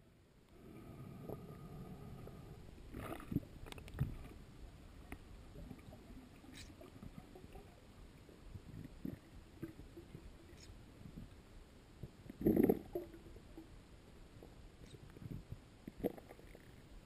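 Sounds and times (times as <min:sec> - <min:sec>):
faint underwater rumble: 0:00.0 - 0:17.0.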